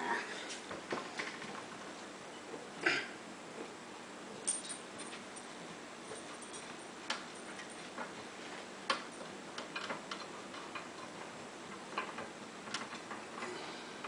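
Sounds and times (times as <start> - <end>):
exhaust fan hissing: 0.0 - 14.0.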